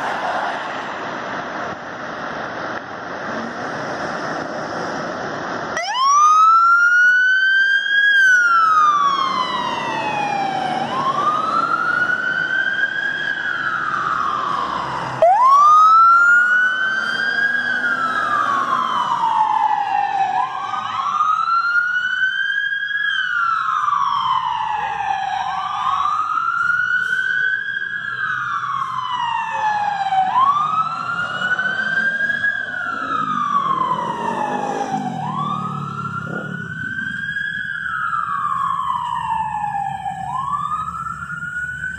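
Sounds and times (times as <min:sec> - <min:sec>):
low rumble of trucks: 0:00.0 - 0:41.9
fire truck siren wailing: 0:04.5 - 0:41.9.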